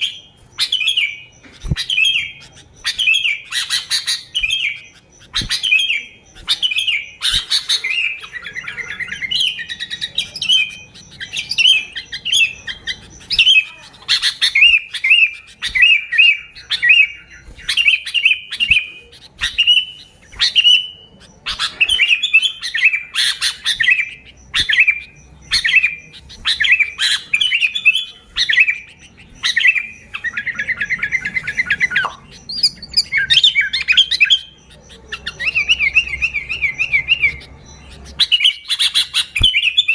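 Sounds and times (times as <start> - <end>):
bird chattering rapidly: 0.0 - 39.9
bulbul singing: 0.0 - 39.9.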